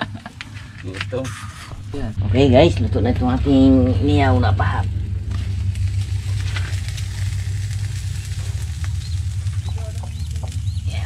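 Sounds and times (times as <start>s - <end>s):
steady low drone: 0.0s - 11.0s.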